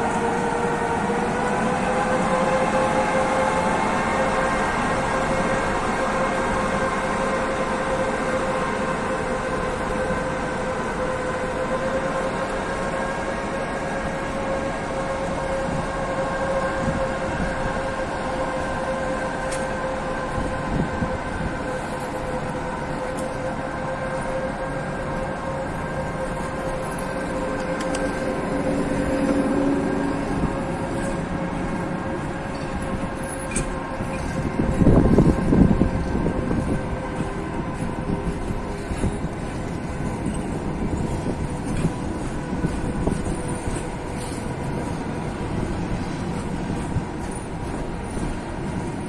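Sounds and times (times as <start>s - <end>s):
electric locomotive whine: 0.0s - 49.0s
train rumble: 0.0s - 49.0s.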